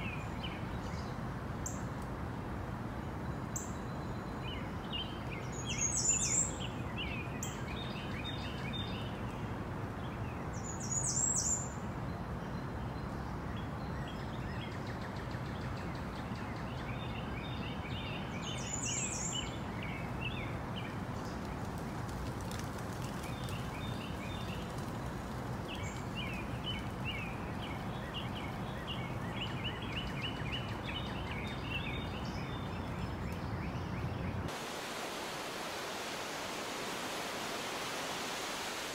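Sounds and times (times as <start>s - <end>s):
small birds chirping: 3.5s - 36.2s.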